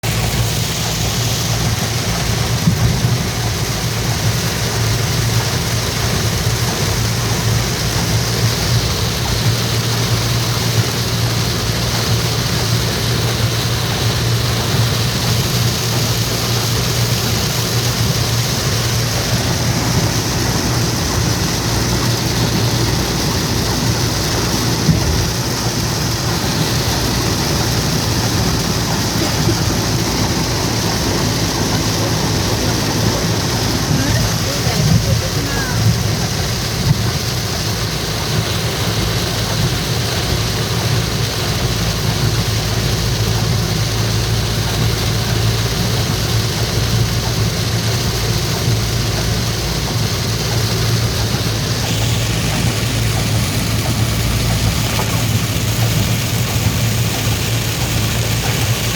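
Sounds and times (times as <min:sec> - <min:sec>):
low steady rumble: 0:00.0 - 0:58.9
steady rain: 0:00.0 - 0:58.9.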